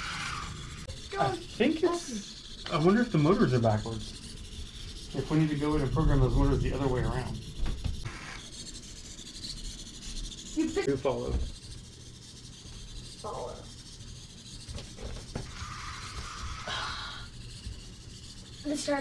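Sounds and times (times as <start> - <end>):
rubbing and hissing noise: 0.0 - 19.0
small electric motors humming: 0.0 - 19.0.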